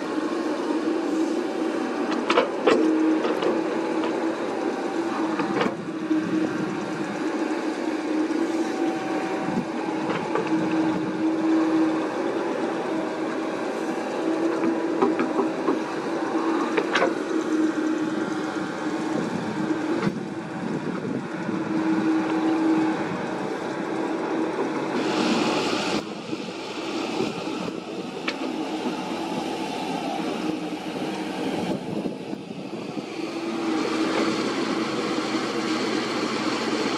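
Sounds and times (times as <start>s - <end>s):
excavator engine and hydraulics whine: 0.0s - 36.9s.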